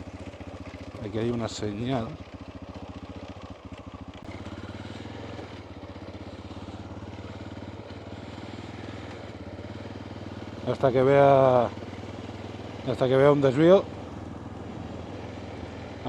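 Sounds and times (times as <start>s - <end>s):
motorcycle engine running at low revs: 0.0s - 16.0s.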